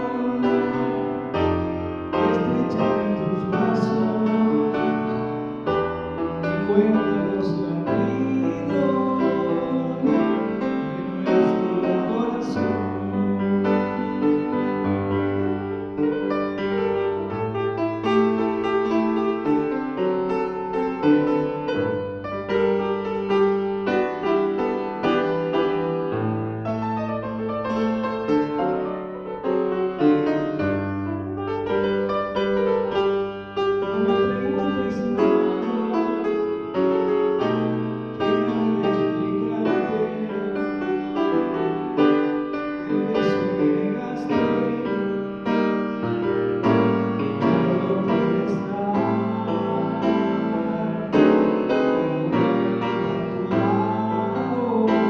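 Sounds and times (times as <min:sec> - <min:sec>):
upright piano chords: 0:00.0 - 0:55.0.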